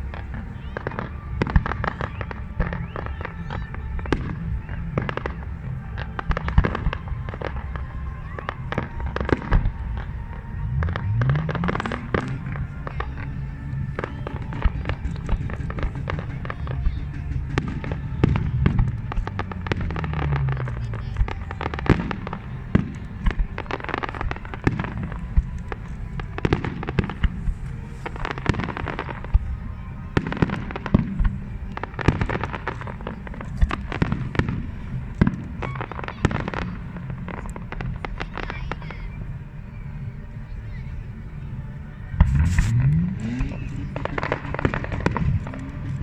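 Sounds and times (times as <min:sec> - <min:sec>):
fireworks bangs and crackles: 0:00.0 - 0:46.0
music playing: 0:00.0 - 0:46.0.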